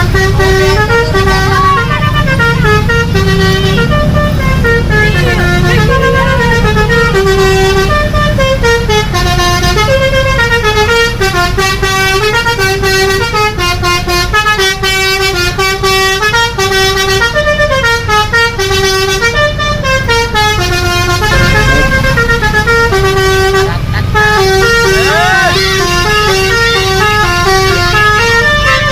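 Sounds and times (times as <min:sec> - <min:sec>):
bus engine rumble: 0:00.0 - 0:28.9
multi-tone bus horn playing a tune: 0:00.0 - 0:28.9.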